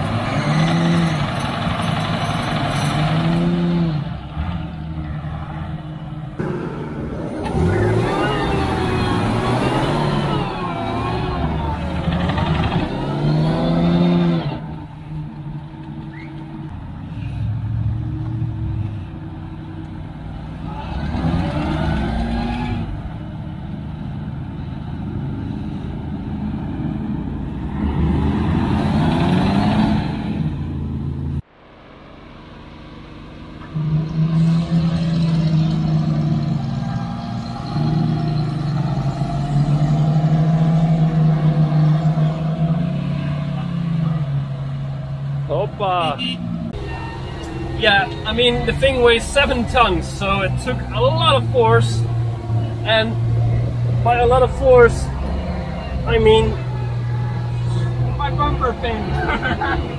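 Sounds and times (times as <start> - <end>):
truck engine revving under load: 0.0 - 31.5, 33.0 - 59.9.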